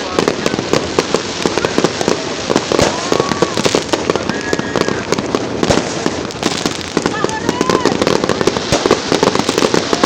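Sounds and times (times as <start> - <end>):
fireworks bangs and crackling: 0.0 - 10.0
fireworks whistling: 0.0 - 10.0.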